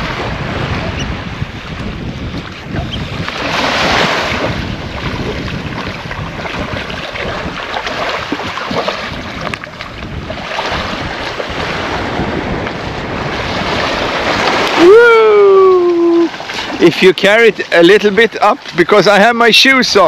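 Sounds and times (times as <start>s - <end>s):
small waves washing on sand: 0.0s - 20.0s
wind on microphone: 0.0s - 20.0s.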